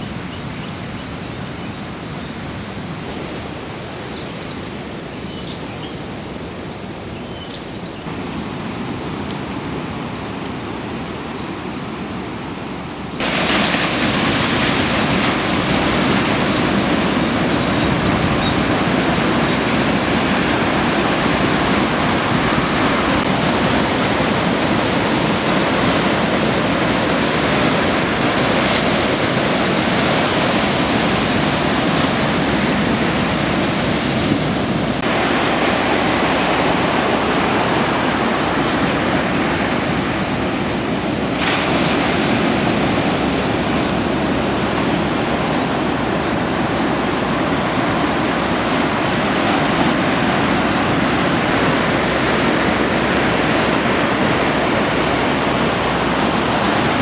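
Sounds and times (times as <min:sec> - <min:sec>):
waves breaking on beach: 0:08.0 - 0:57.0.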